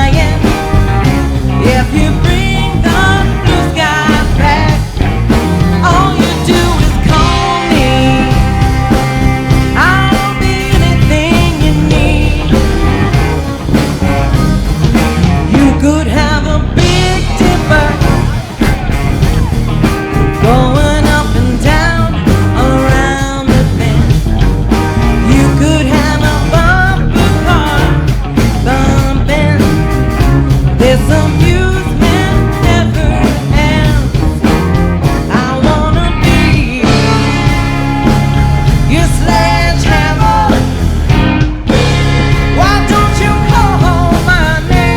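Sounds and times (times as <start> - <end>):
live rock band playing: 0.0 - 44.9
person singing lead vocals: 0.0 - 44.9.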